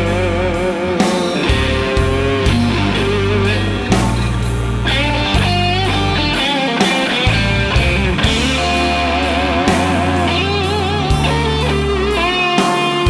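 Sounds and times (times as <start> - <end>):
electric bass: 0.0 - 13.0
electric guitar lead: 0.0 - 13.0
steady drum beat: 0.0 - 13.0.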